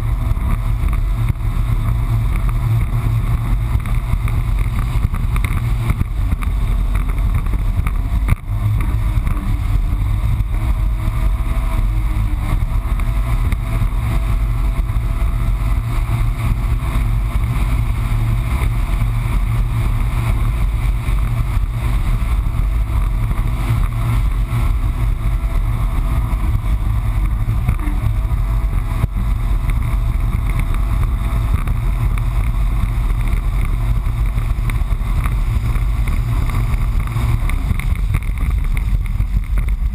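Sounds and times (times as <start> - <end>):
jet ski engine rumble: 0.0 - 39.9
rushing water noise: 0.0 - 39.9.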